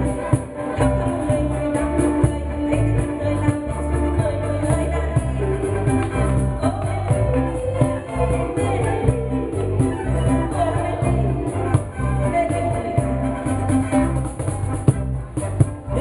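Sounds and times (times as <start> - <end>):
woman singing into a microphone: 0.0 - 14.1
acoustic guitar: 0.0 - 16.0.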